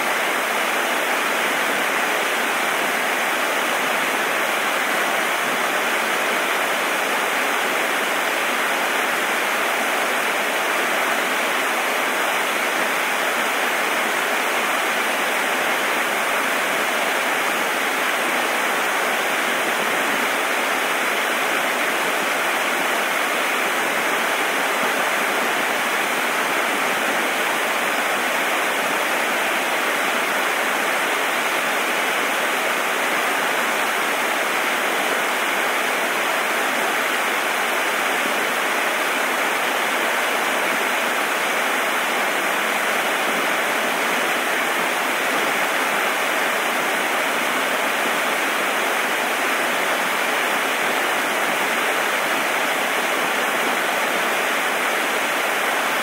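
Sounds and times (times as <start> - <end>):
rush of running water: 0.0 - 56.0.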